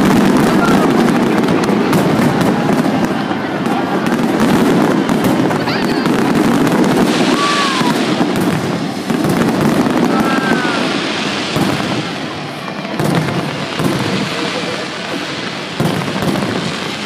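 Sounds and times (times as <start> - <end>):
firework whistles: 0.0 - 17.0
fireworks bursting and crackling: 0.0 - 17.0.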